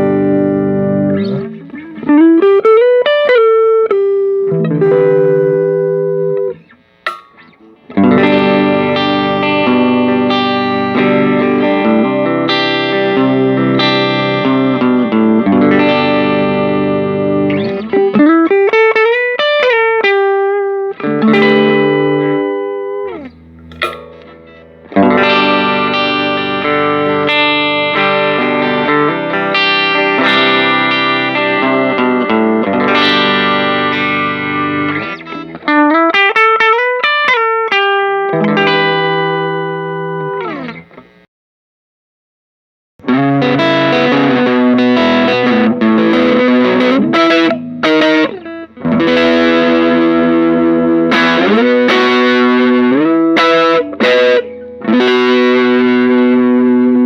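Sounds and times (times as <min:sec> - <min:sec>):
overdriven electric guitar: 0:00.0 - 0:41.2, 0:43.0 - 0:57.0.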